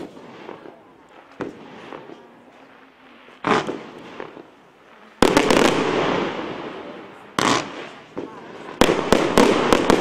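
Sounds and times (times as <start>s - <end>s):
firework bangs: 0.0s - 10.0s.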